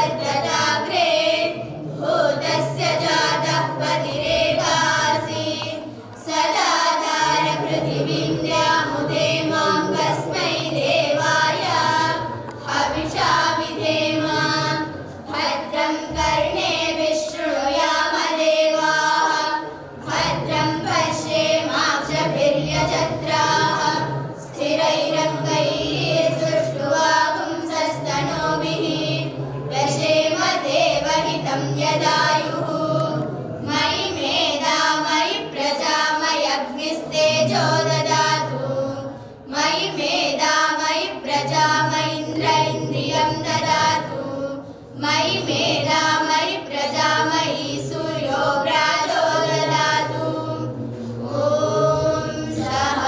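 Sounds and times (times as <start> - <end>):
women chanting in unison: 0.0 - 53.0.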